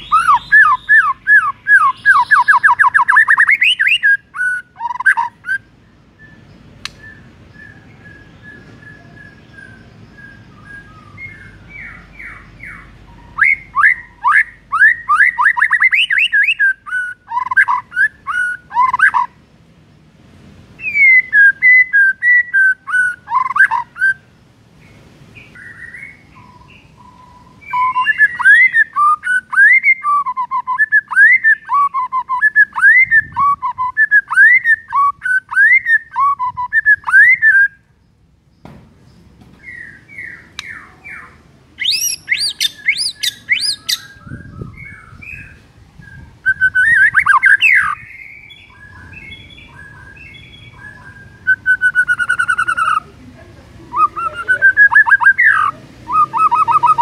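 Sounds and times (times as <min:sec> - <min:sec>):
bird singing whistled notes: 0:00.0 - 0:19.4, 0:20.8 - 0:38.2, 0:39.1 - 0:53.1, 0:53.9 - 0:57.0.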